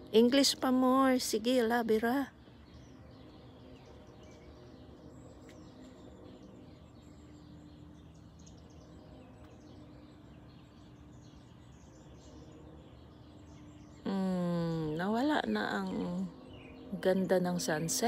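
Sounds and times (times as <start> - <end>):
low background hum: 0.0 - 18.0
small birds chirping: 0.0 - 18.0.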